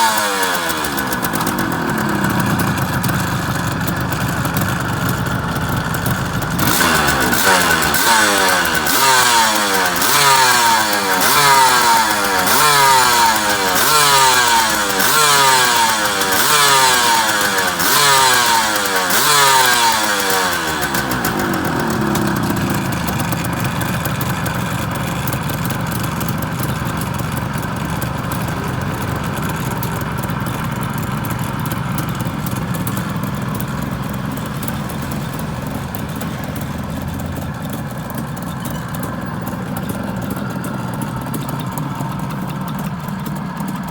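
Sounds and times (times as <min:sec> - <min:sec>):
two-stroke motorcycle engine revving: 0:00.0 - 0:43.9.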